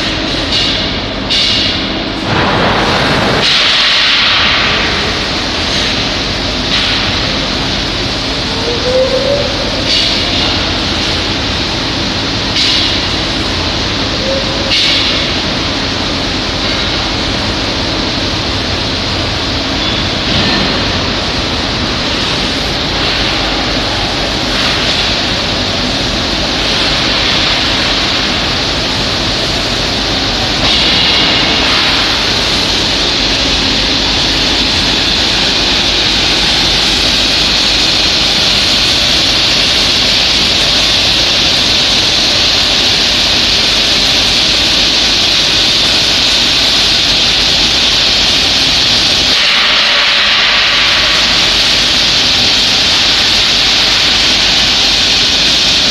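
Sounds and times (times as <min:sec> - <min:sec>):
metal-finishing machinery hissing: 0:02.2 - 0:55.9.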